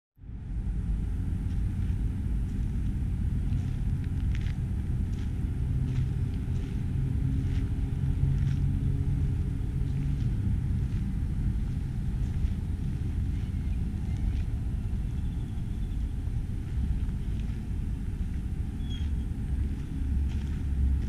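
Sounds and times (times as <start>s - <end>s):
steady low rumble: 0.2s - 21.0s.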